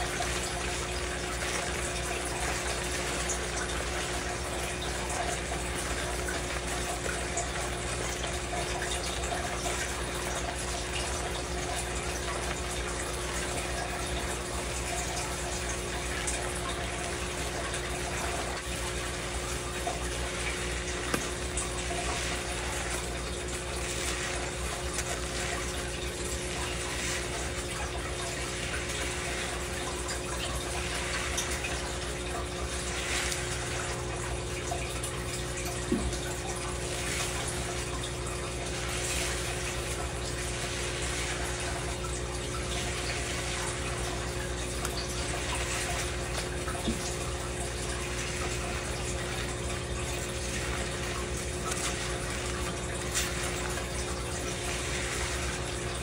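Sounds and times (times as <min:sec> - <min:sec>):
brush scrubbing hair: 0:00.0 - 0:56.0
water running into metal sink: 0:00.0 - 0:56.0.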